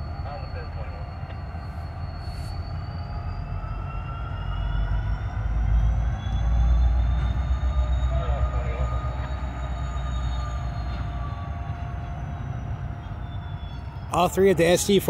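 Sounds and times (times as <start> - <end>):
freight train rumble: 0.0 - 15.0
steel wheels squealing on rail: 0.0 - 15.0.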